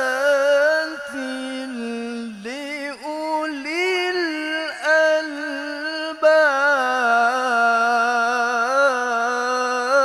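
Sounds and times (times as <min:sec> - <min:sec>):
man chanting recitation: 0:00.0 - 0:10.0.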